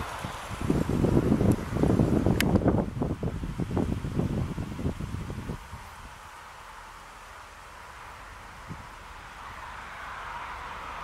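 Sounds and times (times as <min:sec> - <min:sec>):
leaves rustling: 0:00.0 - 0:11.0
wind in trees: 0:00.0 - 0:11.0.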